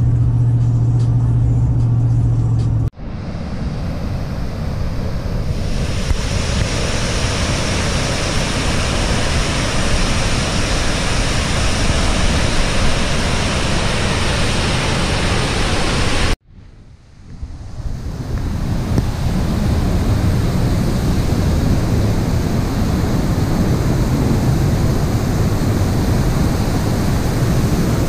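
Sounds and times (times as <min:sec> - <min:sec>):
wind buffeting microphone: 0:03.1 - 0:16.4, 0:17.2 - 0:28.0.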